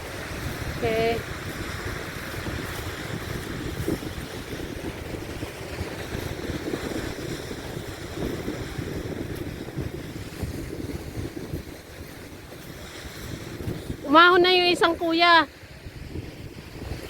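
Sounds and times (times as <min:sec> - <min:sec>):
waves washing on shore: 0:00.0 - 0:17.0
wind buffeting microphone: 0:00.0 - 0:17.0.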